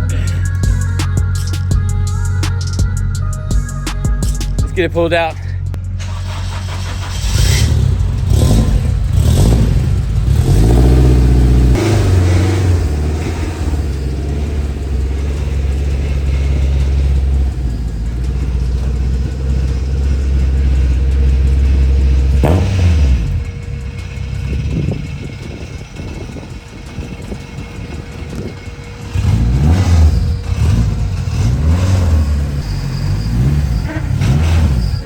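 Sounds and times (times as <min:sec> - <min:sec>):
car engine running: 0:00.0 - 0:35.0
engine throttle blips: 0:00.0 - 0:35.0.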